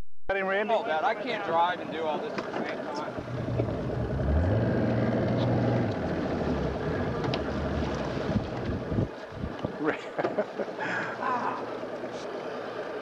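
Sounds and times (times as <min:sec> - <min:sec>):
wind: 0:00.3 - 0:13.0
water noise: 0:00.6 - 0:13.0
outboard motor droning: 0:00.9 - 0:13.0.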